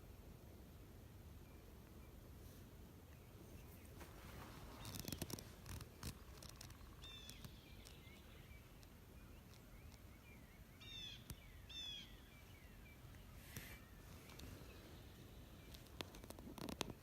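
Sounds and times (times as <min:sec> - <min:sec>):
faint small-bird chirps: 0:03.0 - 0:17.0.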